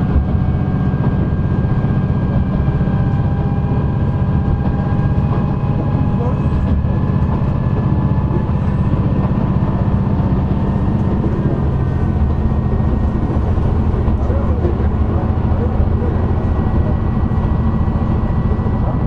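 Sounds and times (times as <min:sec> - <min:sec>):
diesel engine drone: 0:00.0 - 0:19.0
wheels rumbling on rails: 0:00.0 - 0:19.0.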